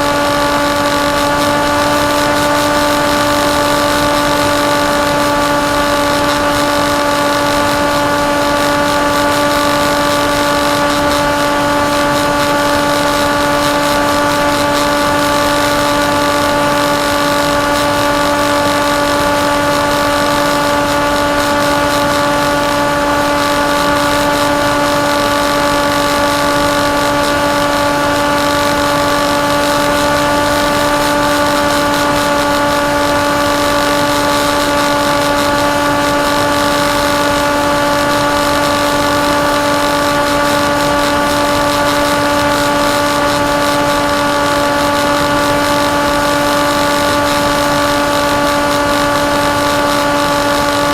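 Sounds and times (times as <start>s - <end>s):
electric motor and propeller whine: 0.0s - 50.9s.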